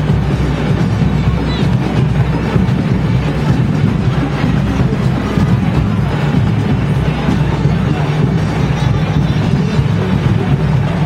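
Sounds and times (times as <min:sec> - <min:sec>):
drums: 0:00.0 - 0:11.0
marching band playing: 0:00.0 - 0:11.0.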